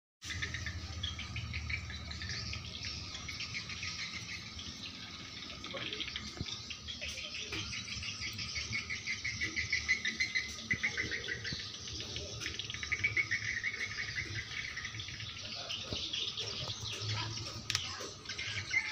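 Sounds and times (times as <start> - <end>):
birds chirping: 0.2 - 18.9.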